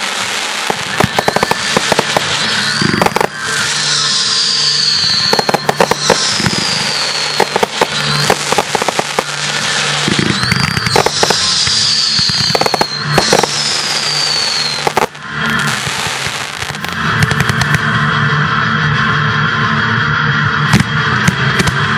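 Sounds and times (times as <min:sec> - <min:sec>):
fireworks bangs and crackling: 0:00.0 - 0:17.9, 0:20.7 - 0:21.9
fireworks whistles falling in pitch: 0:00.0 - 0:17.9.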